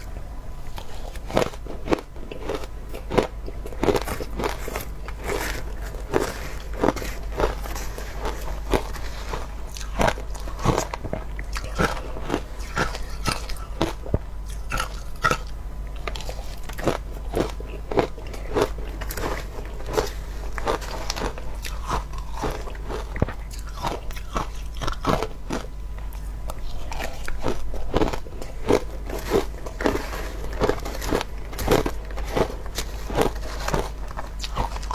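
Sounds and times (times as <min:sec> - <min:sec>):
chewing crunchy ice: 0:00.0 - 0:34.9.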